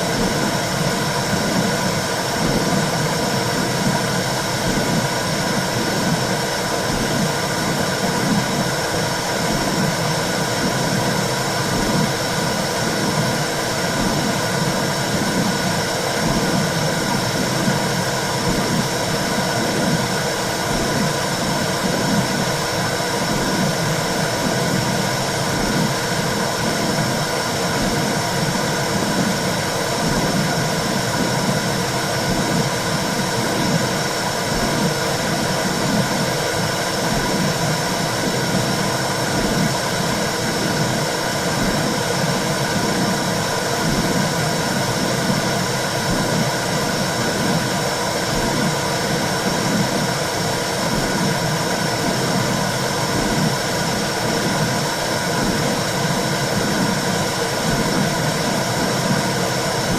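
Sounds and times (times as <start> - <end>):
rhythmic whooshing heartbeat pulse: 0.0 - 59.9
steady rushing noise: 0.0 - 59.9.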